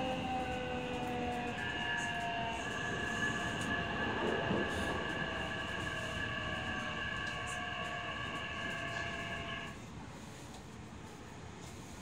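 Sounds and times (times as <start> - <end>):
electric train equipment humming: 0.0 - 9.8.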